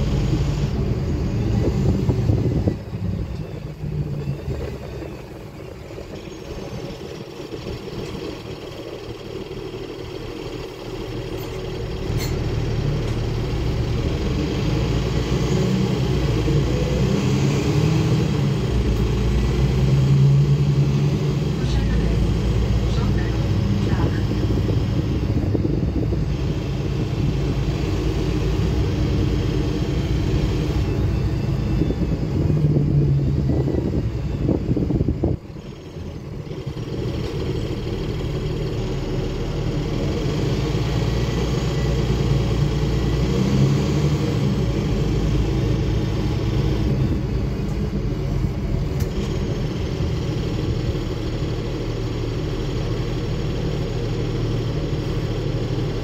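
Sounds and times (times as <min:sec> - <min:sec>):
bus engine rumble: 0:00.0 - 0:56.0
road noise: 0:00.0 - 0:56.0.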